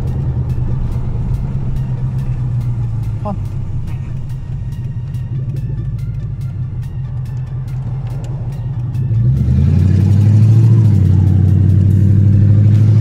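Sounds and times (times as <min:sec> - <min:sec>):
engine droning under throttle: 0:00.0 - 0:13.0.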